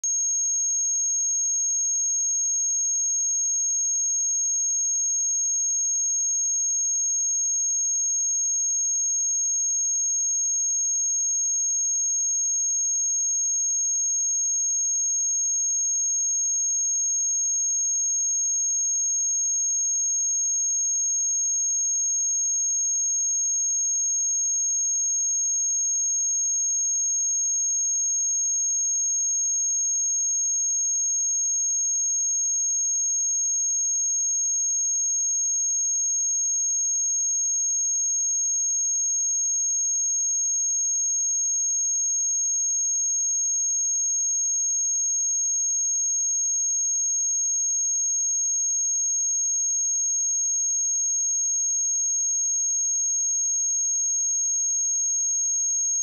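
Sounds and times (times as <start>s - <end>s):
high-pitched sine-wave test tone: 0.0s - 56.0s.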